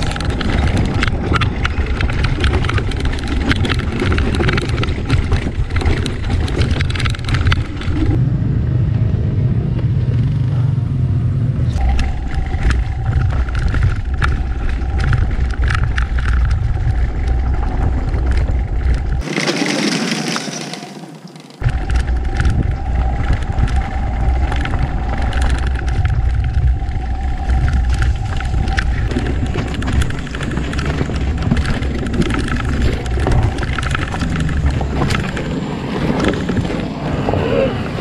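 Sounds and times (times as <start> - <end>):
tyres crackling over stones: 0.0 - 8.2, 11.8 - 37.7
wind rumble on microphone: 0.0 - 19.3, 21.6 - 38.0.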